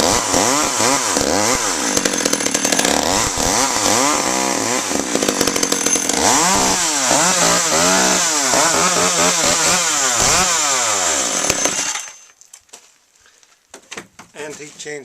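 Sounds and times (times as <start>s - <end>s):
chainsaw cutting log: 0.0s - 12.3s.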